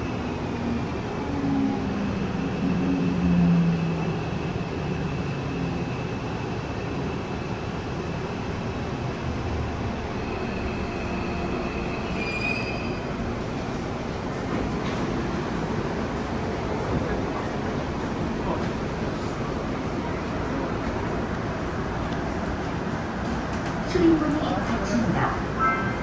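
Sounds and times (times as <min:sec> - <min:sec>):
rumble of wheels on rail: 0:00.0 - 0:26.0.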